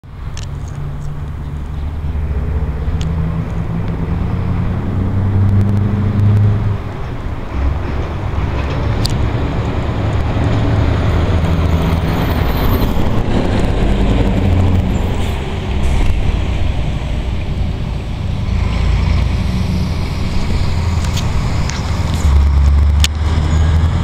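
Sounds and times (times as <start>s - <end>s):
diesel truck engine: 0.0s - 24.0s.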